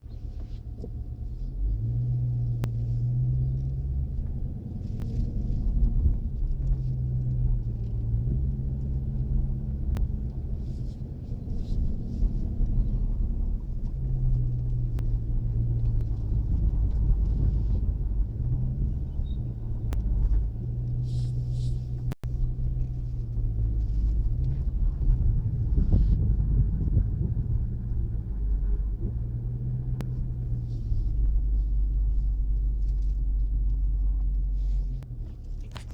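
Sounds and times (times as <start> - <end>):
car engine low rumble: 0.0 - 35.9.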